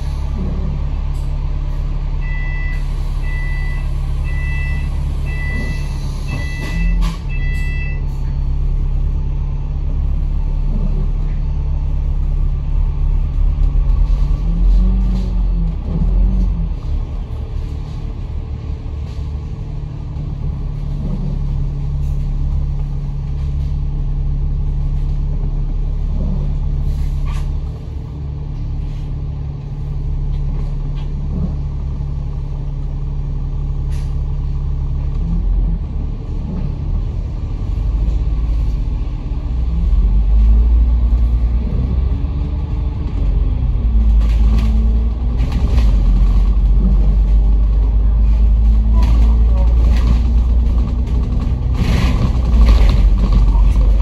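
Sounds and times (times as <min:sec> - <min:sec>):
bus engine running: 0:00.0 - 0:54.0
road noise: 0:00.0 - 0:54.0.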